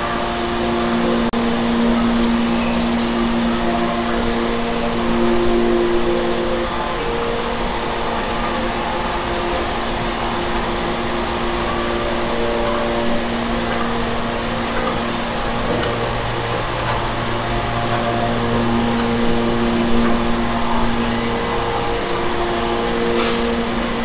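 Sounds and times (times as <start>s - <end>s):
constant motor hum: 0.0s - 24.0s
food machines running: 0.0s - 24.0s.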